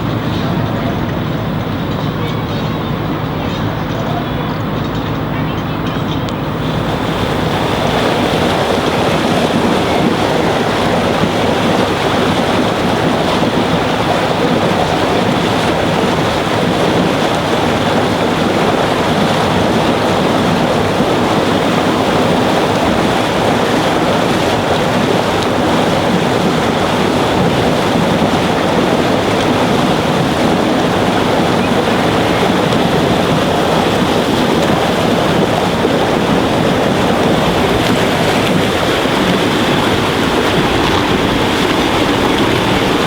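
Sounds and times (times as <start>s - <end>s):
rushing water: 0.0s - 43.0s
wind on microphone: 0.0s - 43.0s.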